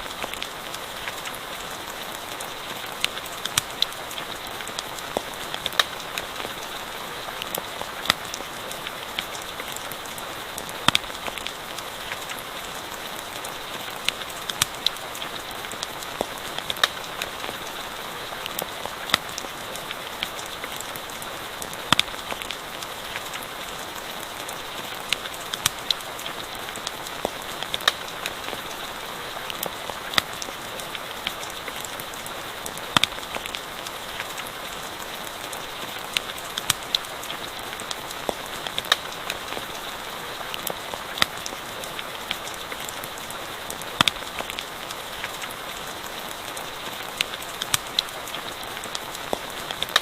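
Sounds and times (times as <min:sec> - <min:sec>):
campfire crackling and popping: 0:00.0 - 0:50.0
rain hiss: 0:00.0 - 0:50.0.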